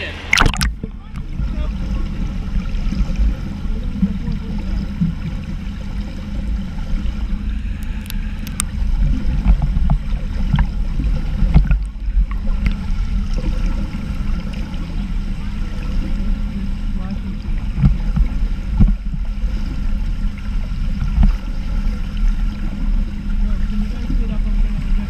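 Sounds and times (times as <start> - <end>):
muffled underwater rumble: 0.0 - 25.0.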